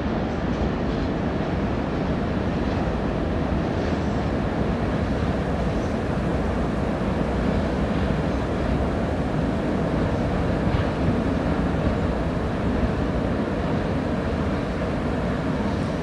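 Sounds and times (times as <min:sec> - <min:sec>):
freight train rumbling over bridge: 0:00.0 - 0:16.0.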